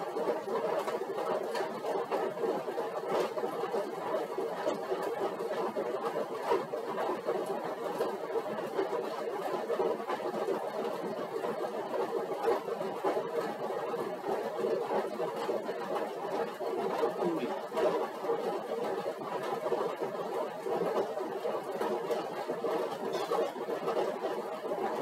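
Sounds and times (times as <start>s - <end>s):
exercise bike whirring: 0.0s - 25.0s.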